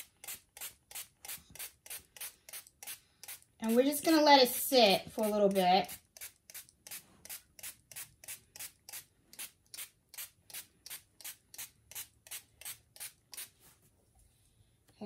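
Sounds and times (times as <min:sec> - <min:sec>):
spray bottle squirting water: 0:00.0 - 0:04.0, 0:05.2 - 0:13.6.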